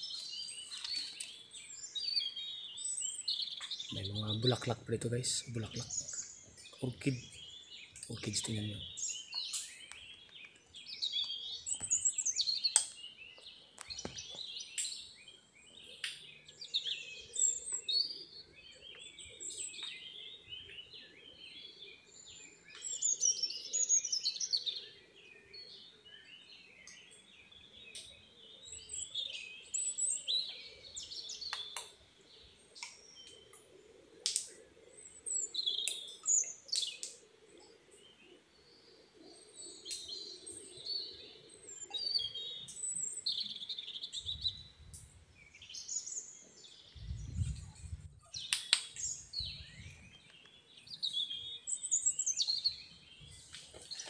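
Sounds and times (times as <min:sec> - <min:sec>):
wild birds chirping: 0:00.0 - 0:54.0.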